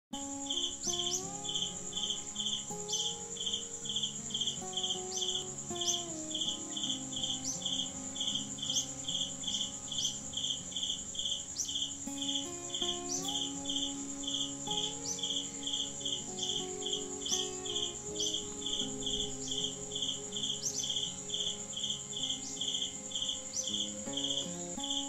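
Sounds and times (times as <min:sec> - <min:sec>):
crickets chirping: 0:00.2 - 0:25.0
high insect trill: 0:00.2 - 0:25.0
soft background music: 0:00.2 - 0:25.0.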